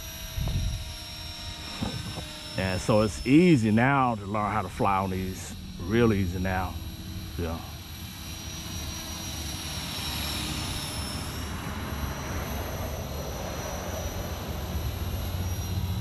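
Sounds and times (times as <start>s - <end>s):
rc helicopter motor whine: 0.0s - 16.0s.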